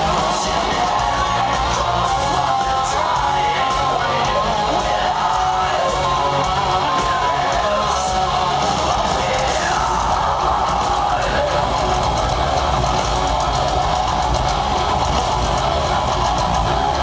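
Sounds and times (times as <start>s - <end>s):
distorted electric guitars: 0.0s - 17.0s
drums: 0.0s - 17.0s.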